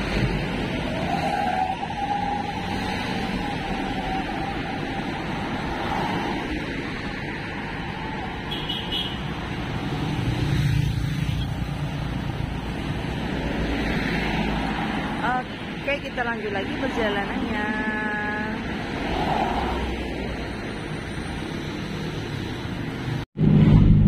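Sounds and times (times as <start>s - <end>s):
road vehicle engine and tyres rumble: 0.0s - 24.0s.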